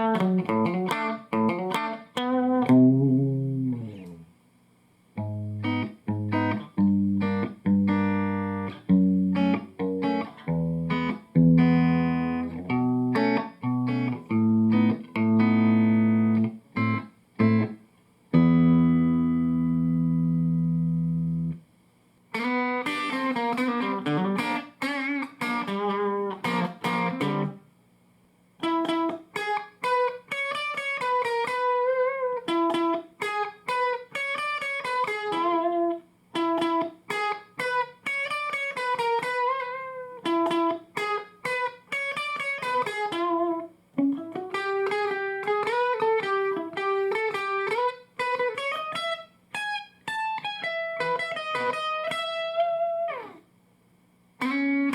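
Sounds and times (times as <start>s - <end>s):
electric guitar through tube amp: 0.0s - 4.3s, 5.2s - 21.6s, 22.4s - 27.6s, 28.6s - 53.5s, 54.4s - 54.9s.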